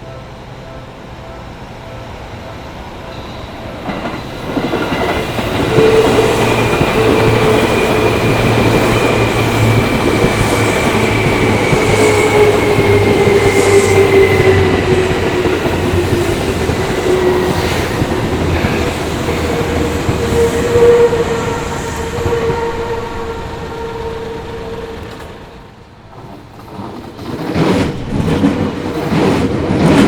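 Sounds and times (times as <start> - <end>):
wheels clattering on rails: 3.8 - 23.6, 24.6 - 30.0.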